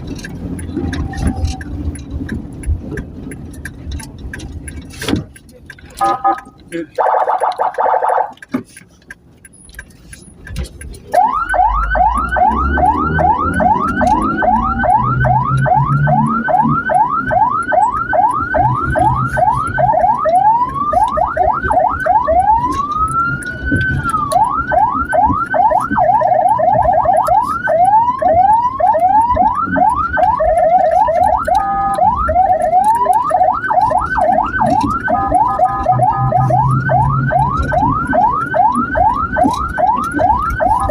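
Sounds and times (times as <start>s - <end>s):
ambulance siren: 0.0s - 2.3s, 6.0s - 8.4s, 11.1s - 40.9s
low engine rumble: 0.0s - 40.9s.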